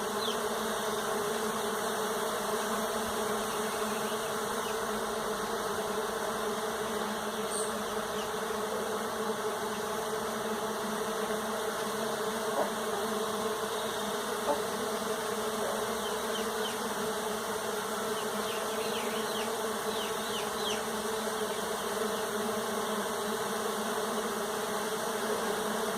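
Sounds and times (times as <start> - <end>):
bees buzzing: 0.0 - 25.9.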